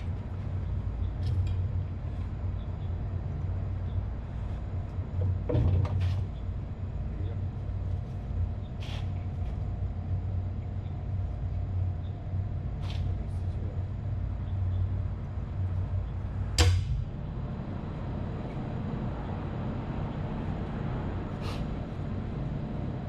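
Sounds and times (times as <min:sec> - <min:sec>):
low machinery hum: 0:00.0 - 0:23.0.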